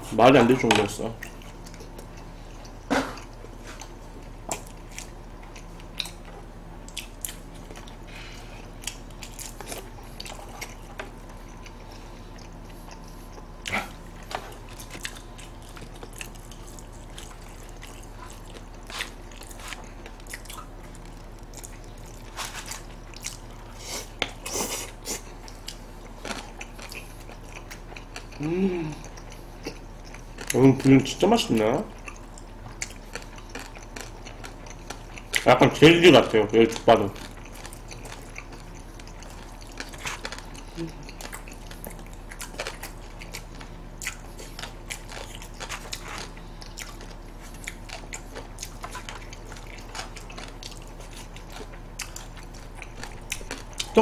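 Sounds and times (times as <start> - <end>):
steady low hum: 0.0 - 54.0
chewing and biting: 1.2 - 30.6, 31.5 - 35.8, 36.7 - 54.0.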